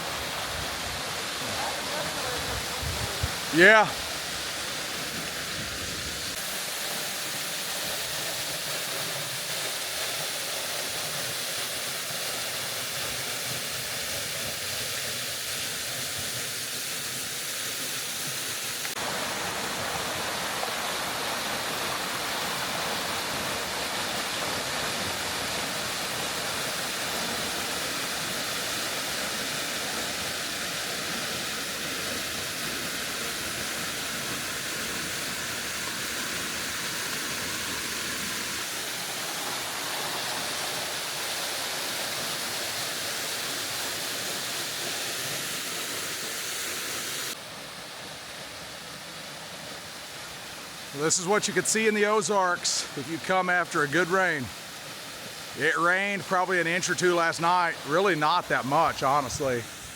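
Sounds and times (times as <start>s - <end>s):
waterfall and creek rushing: 0.0s - 59.9s.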